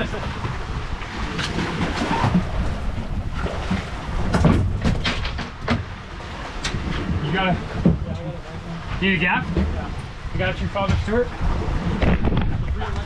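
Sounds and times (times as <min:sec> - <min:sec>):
boat rumbling: 0:00.0 - 0:13.0
wind on microphone: 0:00.0 - 0:13.0.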